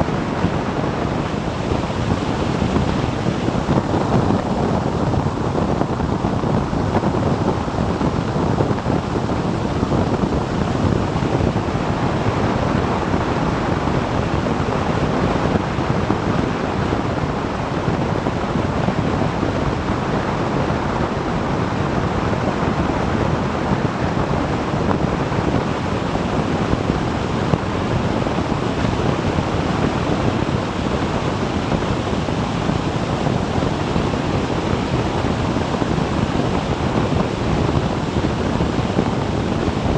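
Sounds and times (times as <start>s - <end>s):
road and engine noise: 0.0s - 39.9s
wind buffeting microphone: 0.0s - 39.9s.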